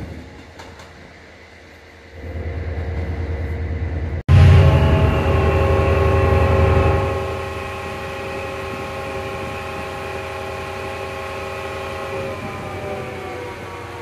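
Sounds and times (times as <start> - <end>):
train low rumble: 0.0 - 14.0
steady hum of held tones: 1.1 - 14.0.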